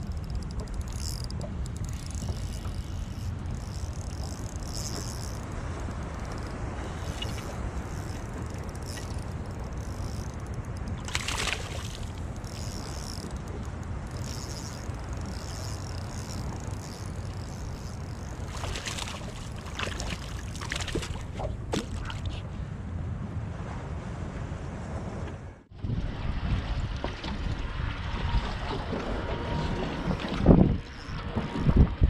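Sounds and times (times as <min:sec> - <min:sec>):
water noise: 0:00.0 - 0:32.0
wind: 0:00.0 - 0:32.0.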